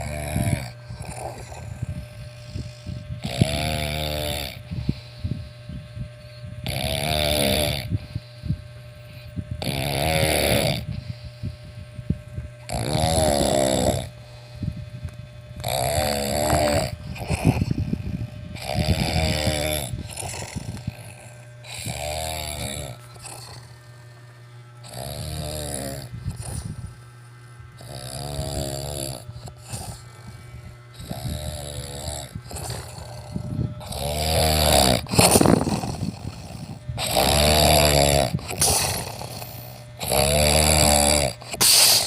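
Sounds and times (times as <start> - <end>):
person snoring: 0.0 - 5.4, 6.3 - 11.6, 12.6 - 14.8, 15.6 - 23.8, 24.8 - 27.0, 27.8 - 42.0.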